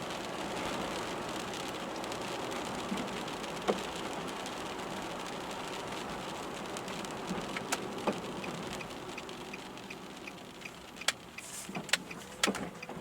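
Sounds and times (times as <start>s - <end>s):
rain falling on a car: 0.0s - 13.0s
sharp raindrop ticks: 0.1s - 13.0s.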